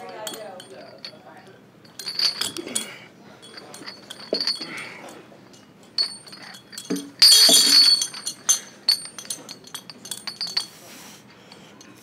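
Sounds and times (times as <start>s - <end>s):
chains rattling: 0.0s - 10.8s
heavy chains clanking: 0.0s - 10.8s.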